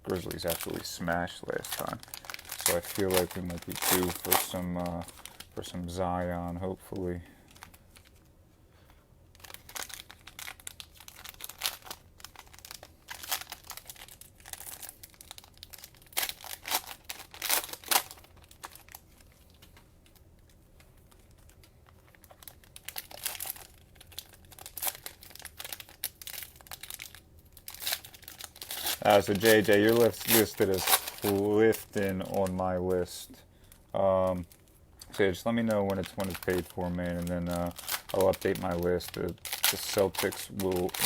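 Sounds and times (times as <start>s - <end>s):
cellophane crinkling and tearing: 0.0s - 8.3s, 9.3s - 41.0s.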